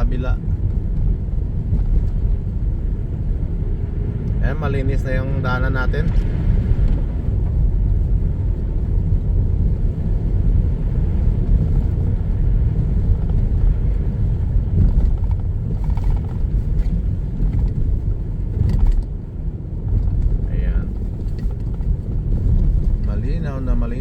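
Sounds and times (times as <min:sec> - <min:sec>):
car driving on snowy road: 0:00.0 - 0:24.0.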